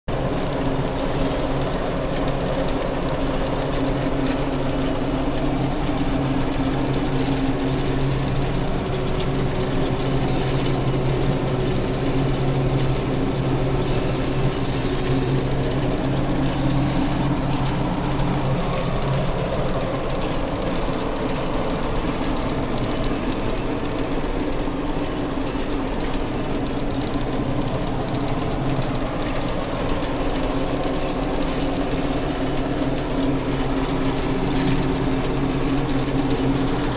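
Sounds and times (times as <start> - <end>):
combine harvester engine drone: 0.0 - 36.9
machinery rattle: 0.1 - 36.9.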